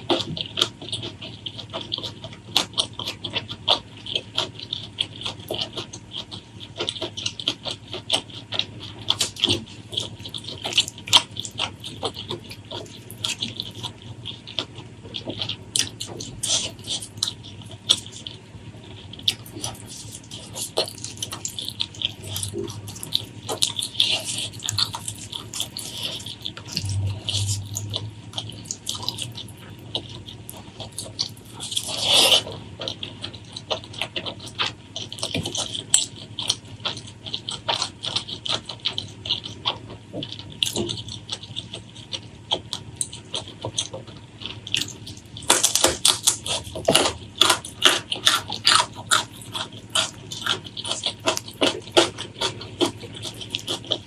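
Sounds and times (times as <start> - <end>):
wet chewing and lip-smacking: 0.0 - 54.0.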